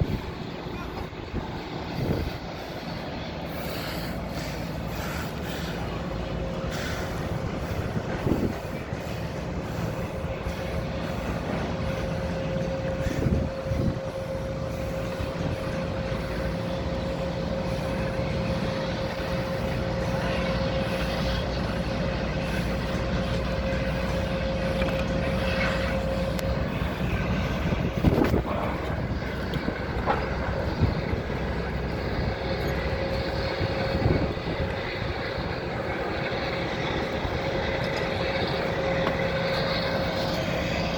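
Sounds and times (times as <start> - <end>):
construction machinery whining: 0.0 - 40.9.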